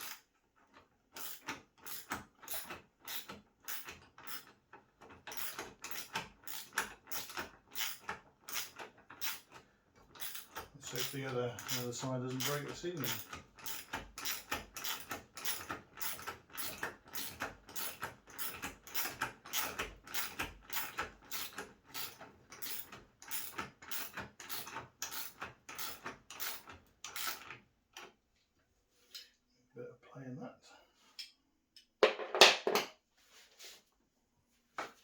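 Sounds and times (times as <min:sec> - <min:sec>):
regular mechanical clicking: 0:00.0 - 0:28.2.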